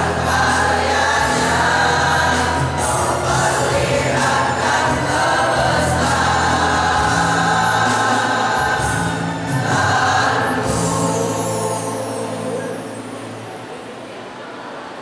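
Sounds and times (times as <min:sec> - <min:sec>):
male choir singing: 0:00.0 - 0:13.0.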